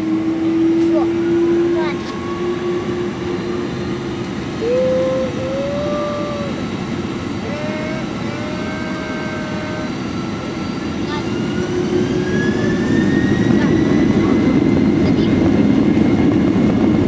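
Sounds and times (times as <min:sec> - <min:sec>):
jet engine rush and whine: 0:00.0 - 0:17.0.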